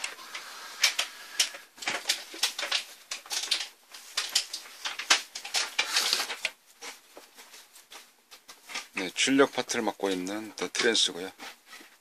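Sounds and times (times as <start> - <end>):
handling clicks and rustles: 0.0 - 12.0.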